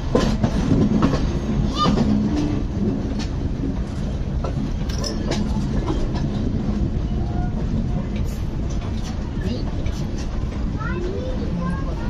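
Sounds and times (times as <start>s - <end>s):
train wheels rumbling: 0.0s - 12.0s
wheels clicking over track: 0.0s - 12.0s.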